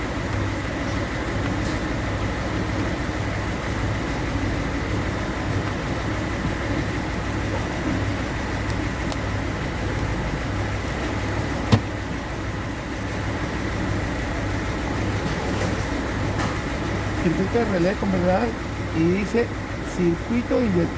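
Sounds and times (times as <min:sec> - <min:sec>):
diesel engine idling roughly: 0:00.0 - 0:20.9.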